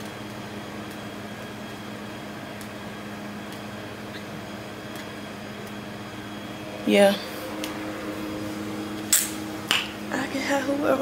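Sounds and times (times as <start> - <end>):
air conditioning hum and hiss: 0.0 - 11.0.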